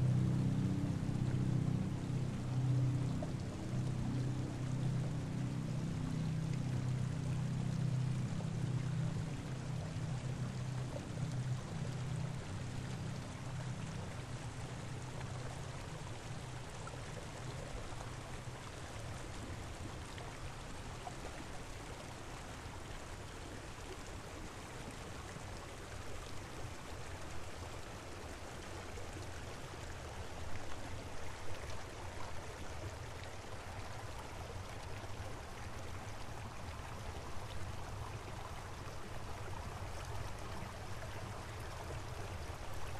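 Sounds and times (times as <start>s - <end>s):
rushing mountain stream: 0.0s - 42.9s.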